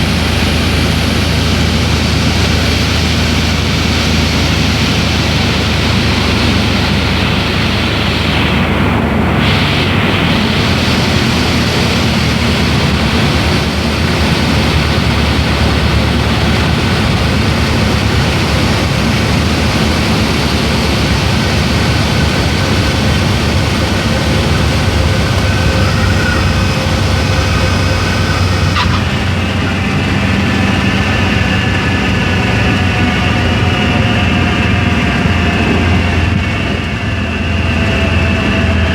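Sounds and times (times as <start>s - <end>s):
propeller plane engine running: 0.0s - 38.9s
rushing air noise: 0.0s - 38.9s.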